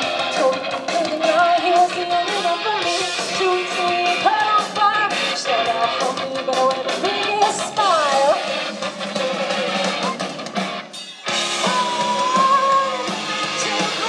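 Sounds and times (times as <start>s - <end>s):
woman singing: 0.0s - 10.1s, 11.6s - 14.0s
live rock band playing: 0.0s - 14.0s.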